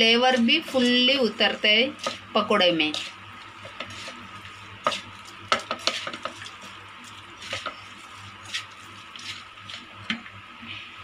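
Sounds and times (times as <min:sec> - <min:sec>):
hand mixing onions scraping rub: 0:00.0 - 0:10.1
faint steady hum: 0:00.0 - 0:11.0.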